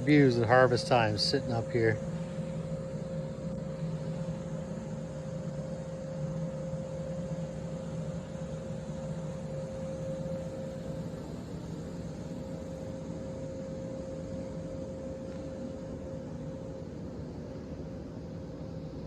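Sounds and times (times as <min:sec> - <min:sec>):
combine harvester drone: 0:00.0 - 0:19.0
steady whine: 0:00.0 - 0:19.0.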